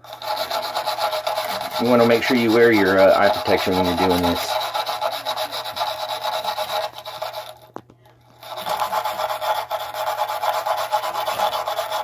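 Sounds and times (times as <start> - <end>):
wire brush scrubbing metal: 0.0 - 7.6, 8.4 - 12.0.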